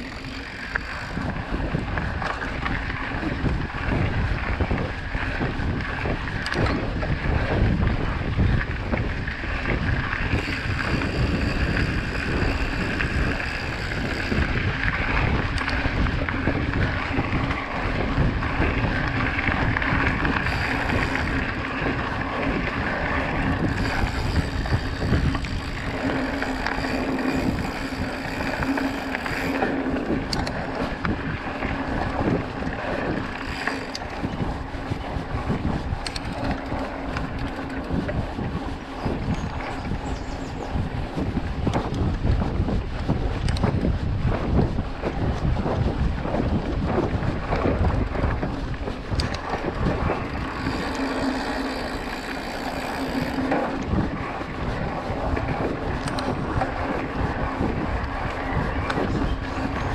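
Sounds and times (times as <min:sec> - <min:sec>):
bike tyres crunching on gravel: 0:00.0 - 0:38.0, 0:46.4 - 0:59.9
bike rattles and knocks: 0:00.0 - 0:59.9
wind buffeting microphone: 0:00.0 - 0:59.9.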